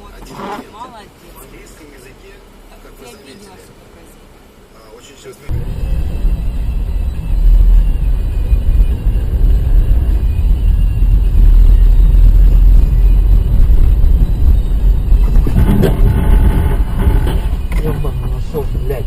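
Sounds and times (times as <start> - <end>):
car interior road and engine rumble: 0.0 - 19.0.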